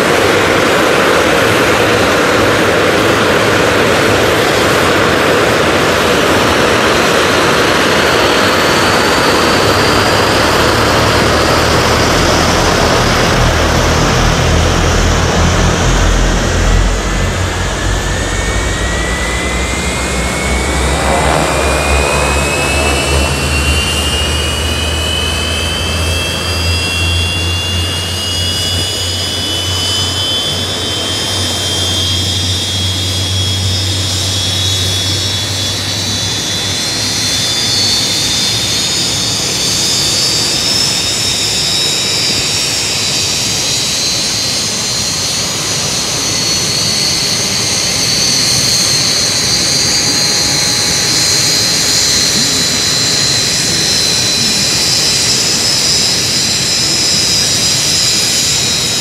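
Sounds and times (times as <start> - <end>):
high engine whine: 0.0 - 59.0
jet engine roar: 0.0 - 59.0
low hum: 0.0 - 59.0.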